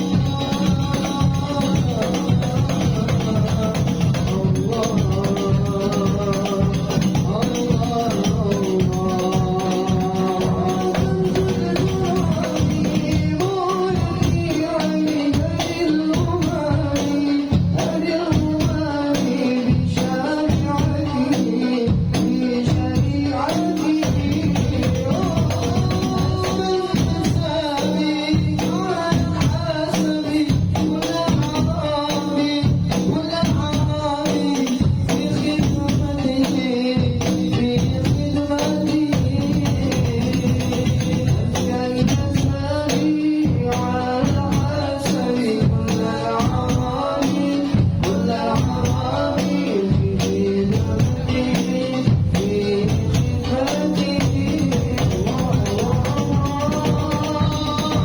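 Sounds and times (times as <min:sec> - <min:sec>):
devotional song singing: 0:00.0 - 0:58.0
hand-played frame drums: 0:00.0 - 0:58.0.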